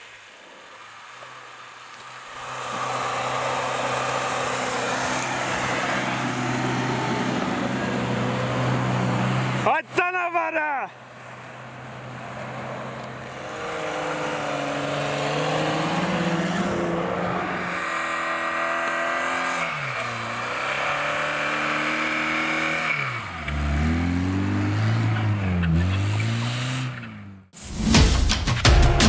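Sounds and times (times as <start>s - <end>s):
engines revving hard: 2.3s - 10.0s, 11.6s - 27.5s.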